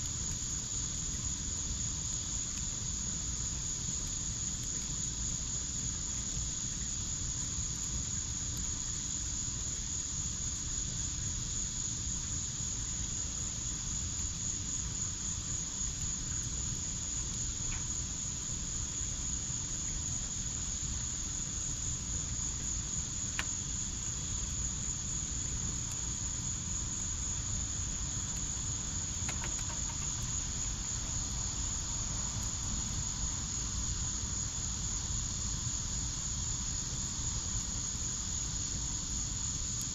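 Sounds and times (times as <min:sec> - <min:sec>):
fire crackles: 0:00.0 - 0:39.9
insect chorus trilling: 0:00.0 - 0:39.9.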